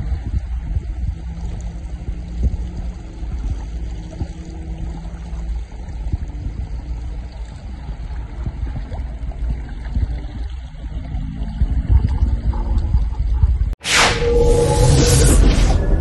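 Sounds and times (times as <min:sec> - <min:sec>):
water splashing along kayak hull: 0:00.0 - 0:13.8
wind buffeting microphone: 0:00.0 - 0:16.0.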